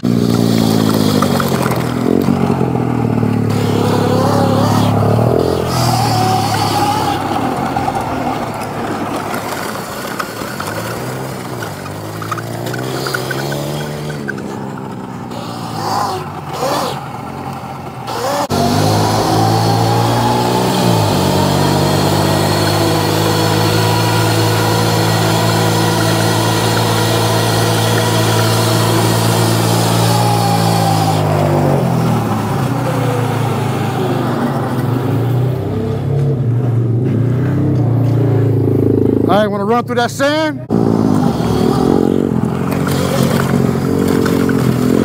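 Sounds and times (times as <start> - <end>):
dirt bike motor revving: 0.0 - 45.0.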